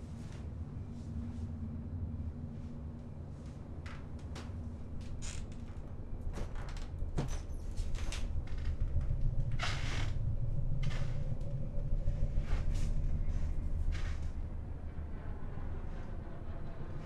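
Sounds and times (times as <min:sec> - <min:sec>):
faint held hum: 0:00.0 - 0:17.0
steady low rumble: 0:00.0 - 0:17.0.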